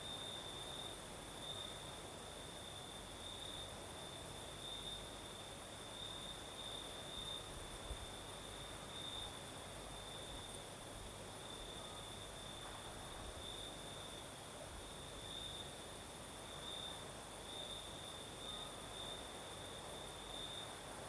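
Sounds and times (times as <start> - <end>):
crickets trilling: 0.0 - 21.0
low rumble of night breeze: 0.0 - 21.0.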